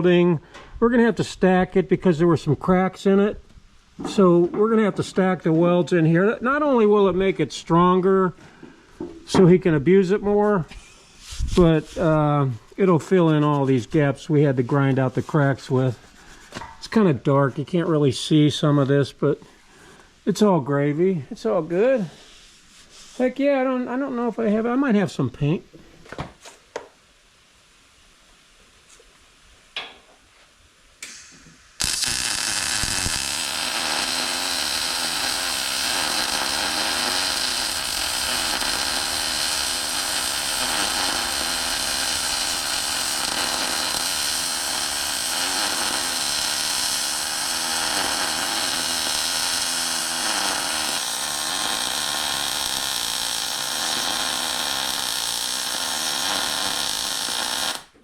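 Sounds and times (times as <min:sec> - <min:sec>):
welding arc crackling hiss: 0:00.0 - 0:16.7, 0:26.9 - 0:58.0.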